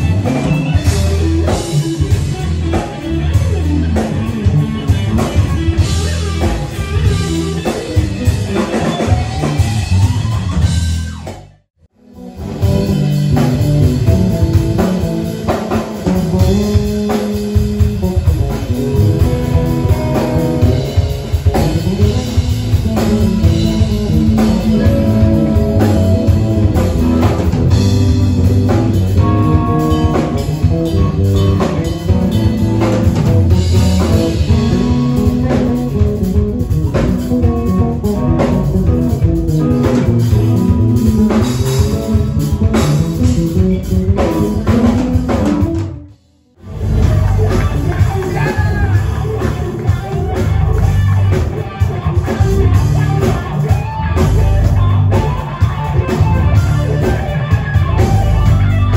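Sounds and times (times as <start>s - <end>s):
drum kit: 0.0s - 58.9s
electric bass: 0.0s - 58.9s
electric guitar: 0.0s - 58.9s.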